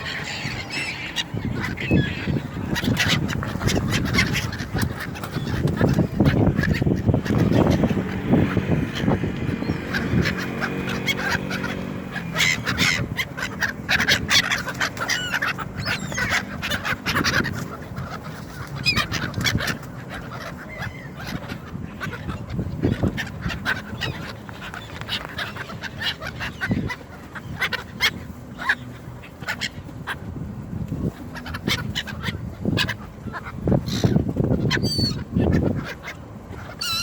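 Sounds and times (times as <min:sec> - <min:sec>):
gulls calling: 0:00.0 - 0:37.0.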